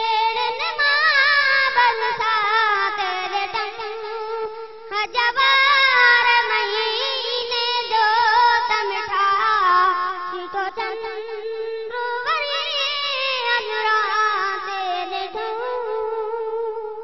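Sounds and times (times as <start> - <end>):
boy singing devotional song: 0.0 - 17.0.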